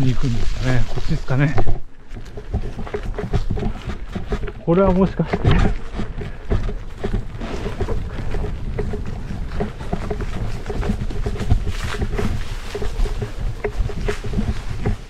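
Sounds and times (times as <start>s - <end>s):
bike rattling: 0.0s - 15.0s
tyres crunching on stones: 0.0s - 15.0s
wind rumble on microphone: 0.0s - 15.0s.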